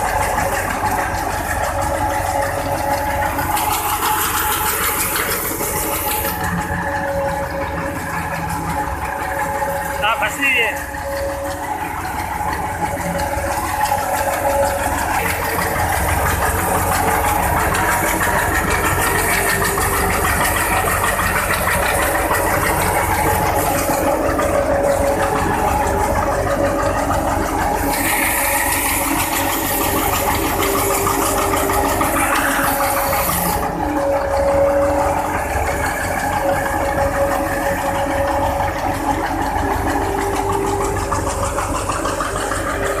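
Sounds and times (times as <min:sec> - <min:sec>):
thresher machine running: 0:00.0 - 0:43.0
tractor engine running: 0:00.0 - 0:43.0.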